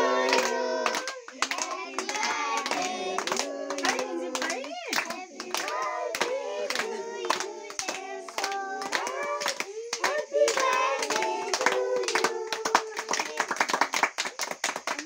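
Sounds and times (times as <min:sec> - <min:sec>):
group singing birthday song: 0:00.0 - 0:14.6
rhythmic hand clapping: 0:00.0 - 0:15.0.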